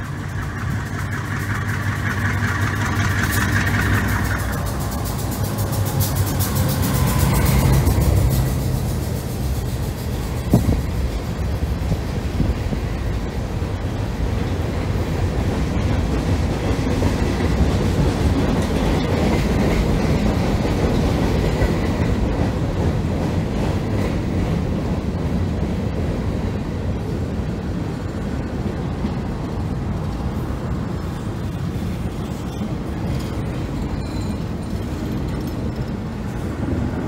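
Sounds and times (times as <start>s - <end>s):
train wheels rolling on rails: 0.0s - 37.0s.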